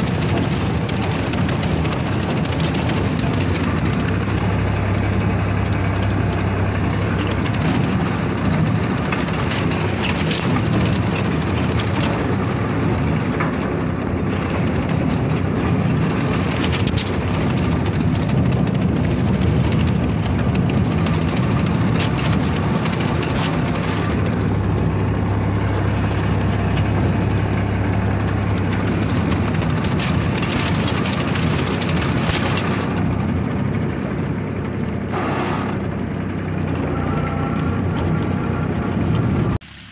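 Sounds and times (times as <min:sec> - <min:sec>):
machinery clicking: 0:00.0 - 0:39.5
tractor diesel engine running: 0:00.0 - 0:39.9.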